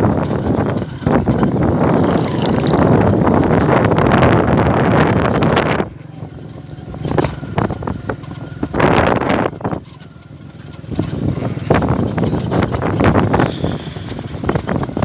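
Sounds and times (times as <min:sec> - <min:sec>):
low engine hum: 0:00.0 - 0:15.0
wind rushing over microphone: 0:00.0 - 0:15.0.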